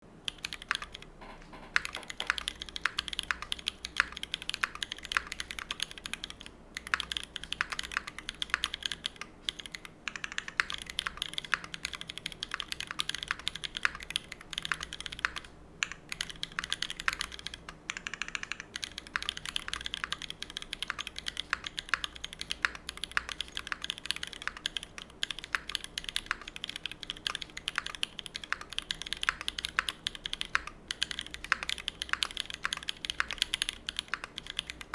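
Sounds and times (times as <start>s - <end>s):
mechanical keyboard typing: 0.3s - 34.9s.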